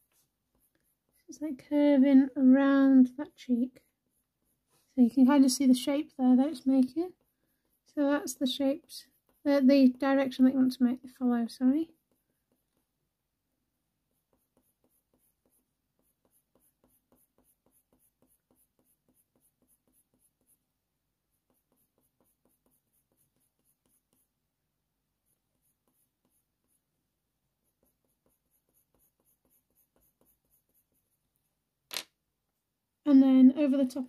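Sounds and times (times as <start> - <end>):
pencil strokes on paper: 0.0 - 13.1, 13.7 - 31.7.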